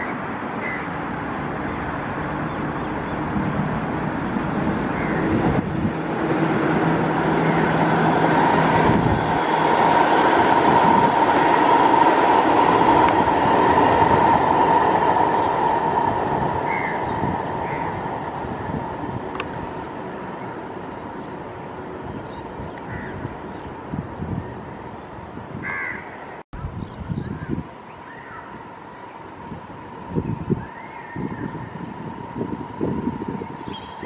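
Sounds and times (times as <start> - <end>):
electric train passing: 0.0 - 25.0, 27.8 - 34.0.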